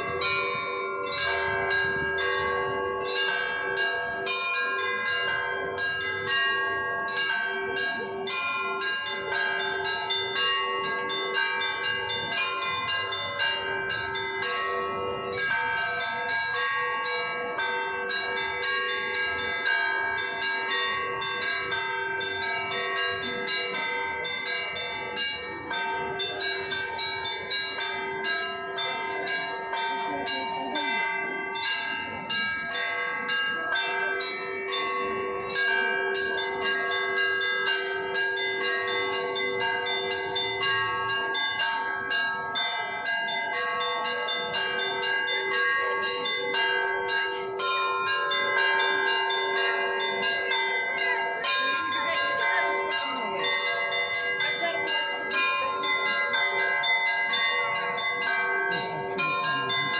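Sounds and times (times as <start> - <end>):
small bells ringing: 0.0 - 59.9.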